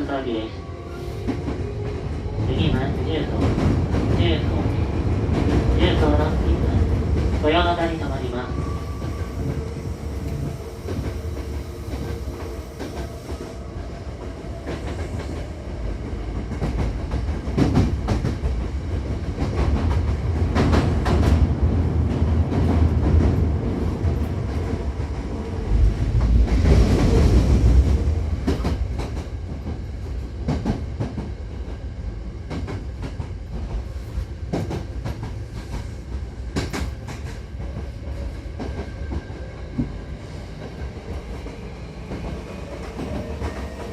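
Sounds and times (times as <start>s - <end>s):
train running gear rumbling: 0.0s - 43.9s.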